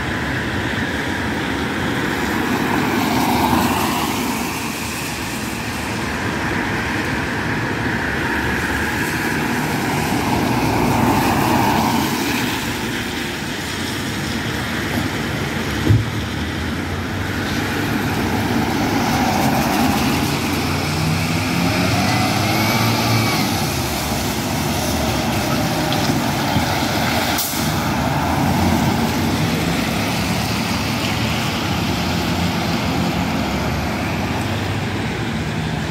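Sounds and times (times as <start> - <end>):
cars passing on wet road: 0.0 - 35.9.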